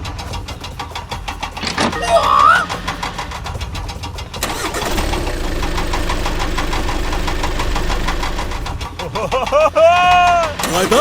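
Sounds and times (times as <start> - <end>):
engine running with knocking pulse: 0.0 - 11.0.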